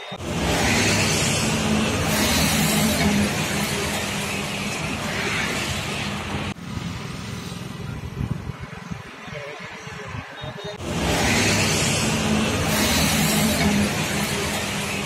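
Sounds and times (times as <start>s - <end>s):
road and wind noise: 0.0s - 15.0s
vehicle engine humming: 0.0s - 15.0s.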